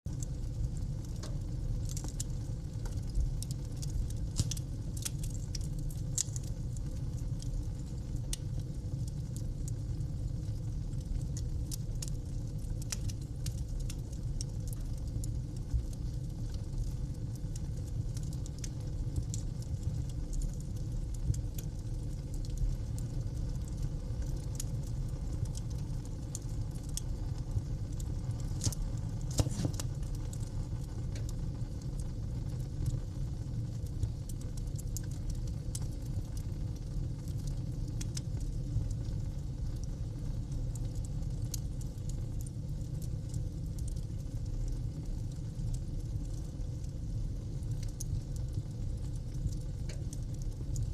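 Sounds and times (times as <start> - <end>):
wood fire crackling: 0.1 - 50.9.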